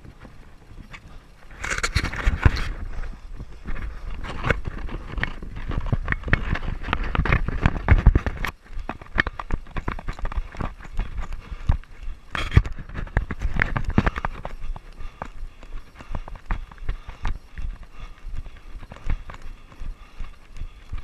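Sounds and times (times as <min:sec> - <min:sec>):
running footsteps on dirt: 0:00.0 - 0:21.0.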